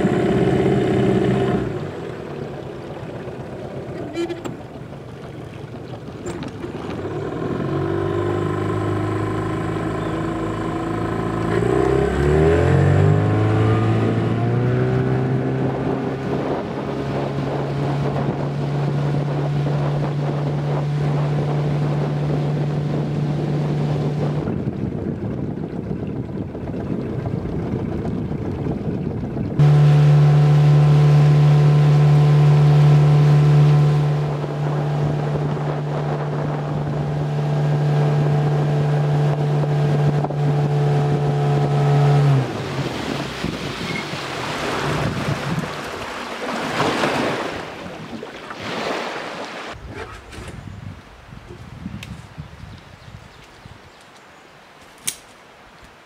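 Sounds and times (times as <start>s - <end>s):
outboard motor running: 0.0s - 50.5s.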